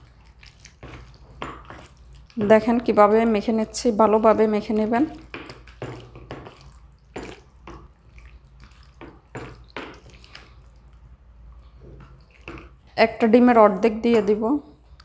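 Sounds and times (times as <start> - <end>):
hands squelching in sticky marinade: 0.0 - 13.0.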